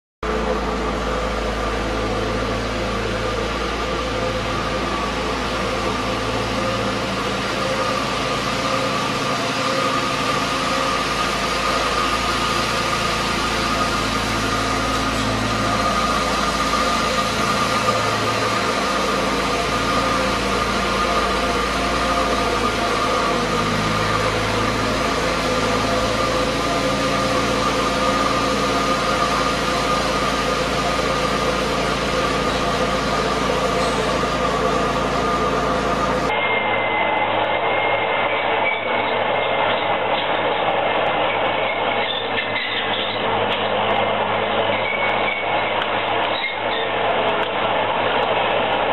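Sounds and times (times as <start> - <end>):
high whine: 0.2 - 48.9
machine engine running: 0.2 - 48.9.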